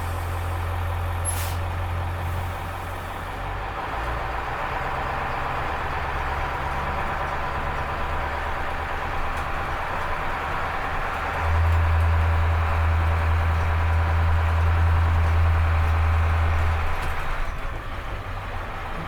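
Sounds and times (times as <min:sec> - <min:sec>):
bus engine droning: 0:00.0 - 0:19.0.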